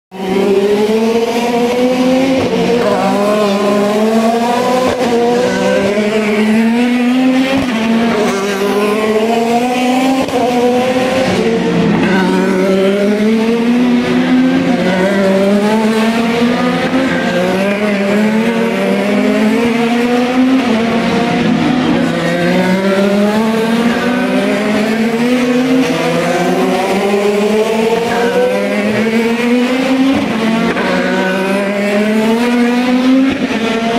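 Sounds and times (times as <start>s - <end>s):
race car engines accelerating: 0.1s - 33.9s.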